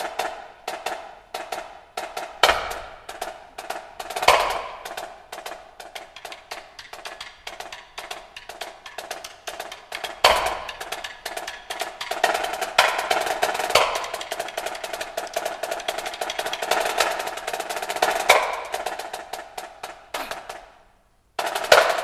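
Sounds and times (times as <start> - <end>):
snare drum rolls: 0.0 - 20.8, 21.4 - 22.0.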